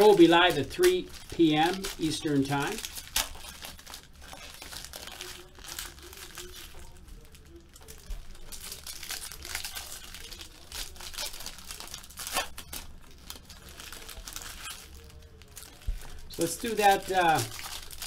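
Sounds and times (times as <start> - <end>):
foil wrappers crinkling and tearing: 0.0 - 18.0.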